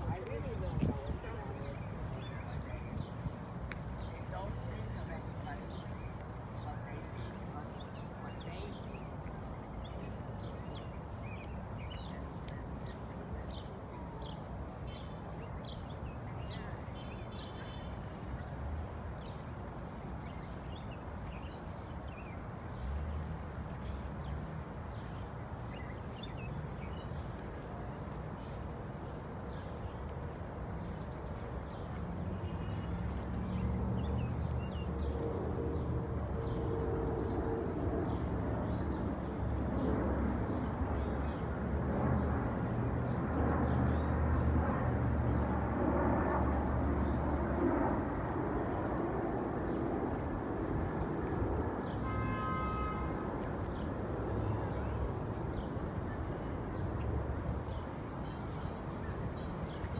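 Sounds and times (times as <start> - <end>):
birds chirping: 0.0 - 59.9
city background rumble: 0.0 - 59.9.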